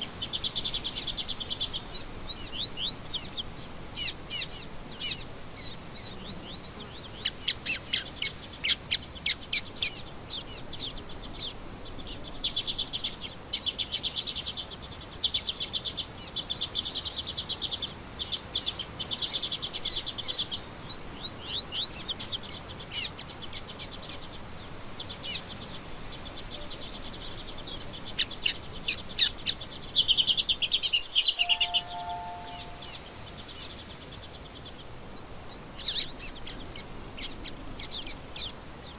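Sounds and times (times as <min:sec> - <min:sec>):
songbirds singing and trilling: 0:00.0 - 0:38.9.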